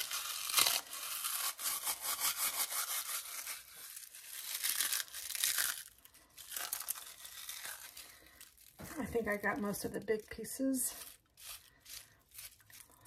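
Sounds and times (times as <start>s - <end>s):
potato chips being crushed: 0.0s - 13.0s.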